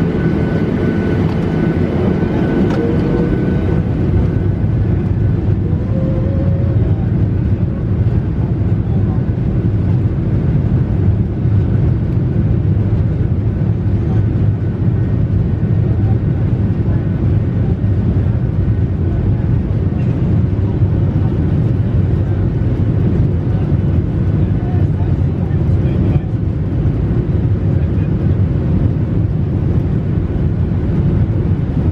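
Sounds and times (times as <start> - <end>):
airliner cabin engine rumble: 0.0 - 31.9.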